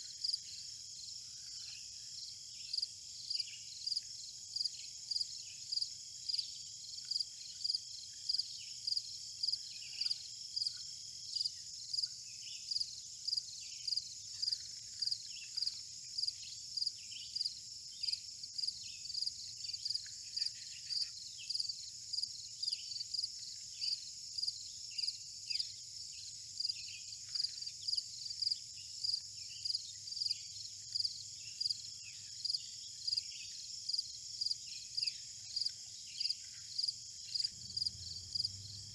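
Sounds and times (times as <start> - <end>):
insects chirping rhythmically: 0.2 - 38.9.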